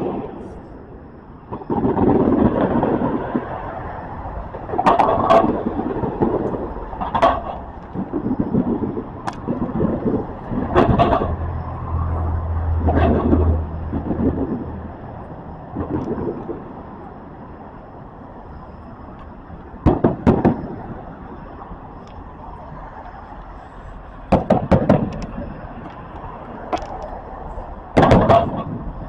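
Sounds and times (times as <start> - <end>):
fireworks bangs: 0.0 - 3.6, 4.4 - 11.8, 12.8 - 22.3, 24.2 - 27.1, 27.8 - 29.0.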